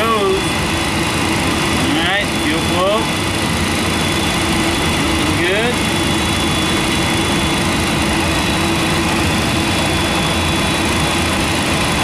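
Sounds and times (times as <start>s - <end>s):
faint high whine: 0.0s - 12.0s
jet engine spooling up: 0.0s - 12.0s
steady hum: 0.0s - 12.0s.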